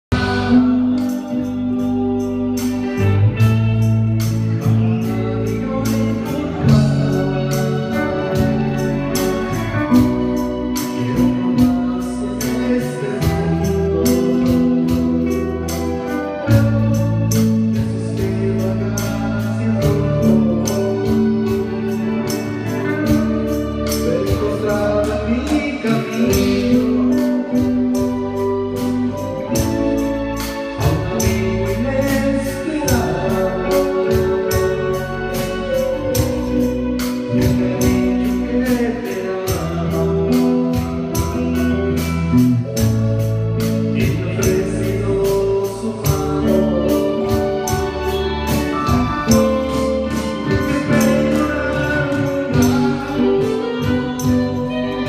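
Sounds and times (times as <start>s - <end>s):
drum kit beat: 0.0s - 55.0s
electric bass: 0.0s - 55.0s.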